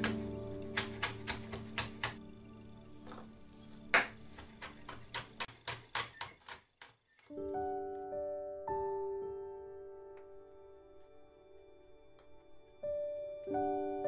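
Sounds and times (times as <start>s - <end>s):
soft background music: 0.0s - 6.6s, 7.2s - 14.0s.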